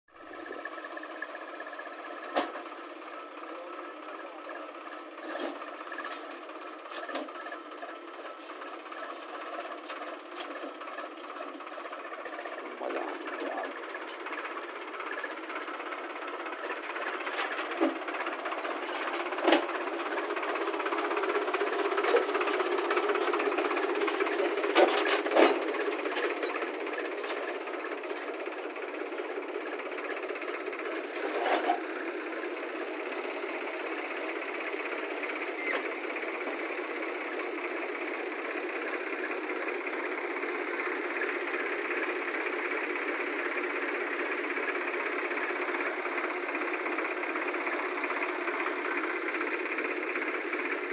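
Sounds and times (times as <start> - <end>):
machine engine running: 0.2 - 50.9.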